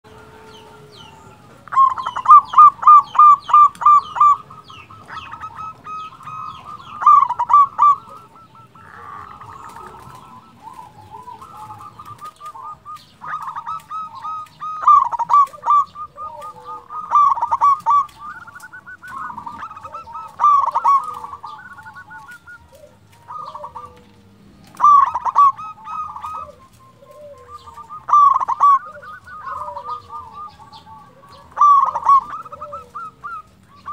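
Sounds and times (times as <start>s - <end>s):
dove cooing: 0.0s - 33.9s.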